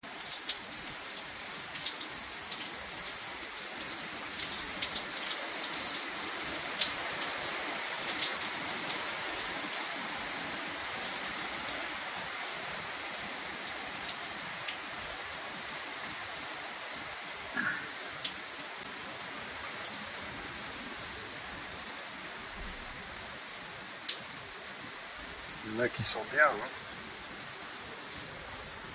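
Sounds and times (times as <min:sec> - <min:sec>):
rain falling: 0:00.0 - 0:28.9
raindrops ticking on a surface: 0:00.0 - 0:28.9.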